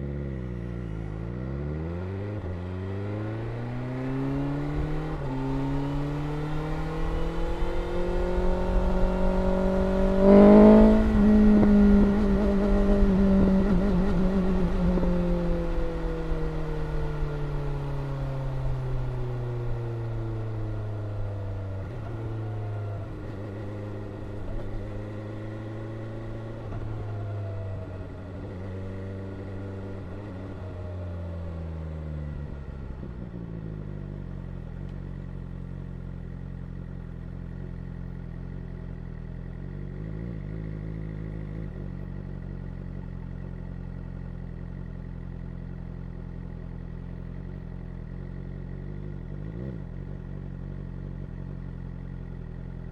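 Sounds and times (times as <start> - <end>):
motorcycle engine decelerating: 0.0 - 52.9.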